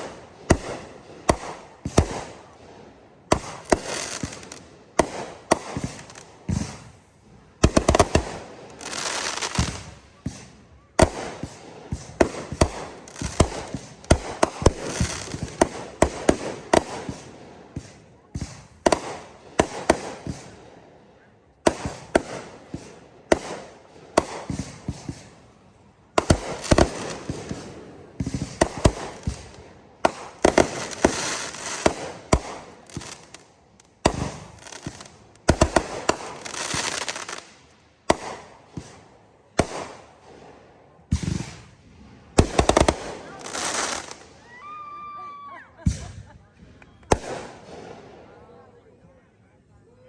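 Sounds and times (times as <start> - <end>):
firework crackling: 0.0 - 20.9, 21.6 - 46.3, 46.9 - 48.6
firework booms and bangs: 0.0 - 21.0, 21.6 - 44.3, 45.8 - 46.3, 47.1 - 48.4.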